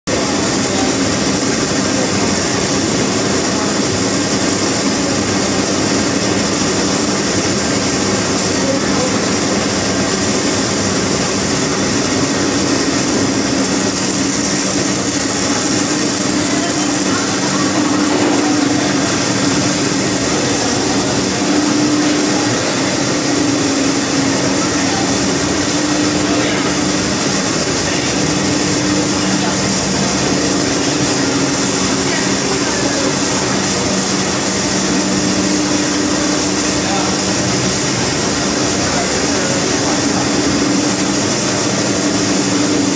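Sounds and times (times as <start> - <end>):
machine hum: 0.1 - 42.9.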